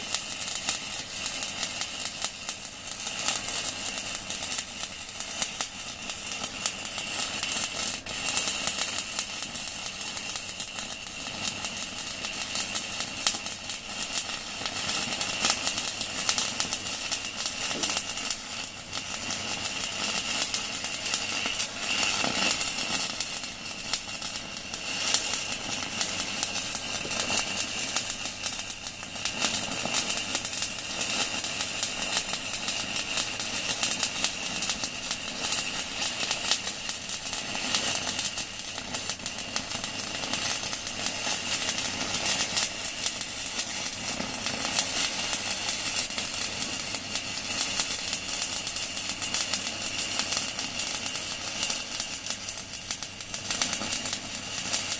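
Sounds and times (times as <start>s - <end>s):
welding arc crackling and sizzling: 0.0s - 54.9s.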